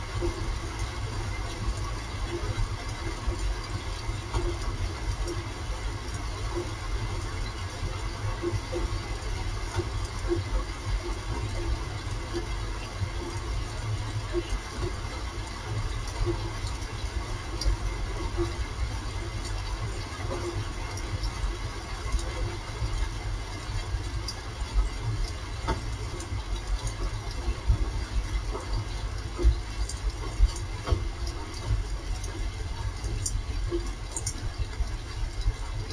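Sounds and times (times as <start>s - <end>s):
rain falling steadily: 0.0s - 35.9s
drip ticks: 0.1s - 35.9s.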